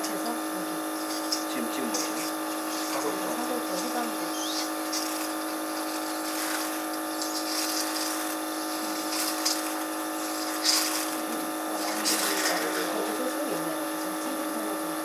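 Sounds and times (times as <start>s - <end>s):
electric machine hum: 0.0s - 15.0s.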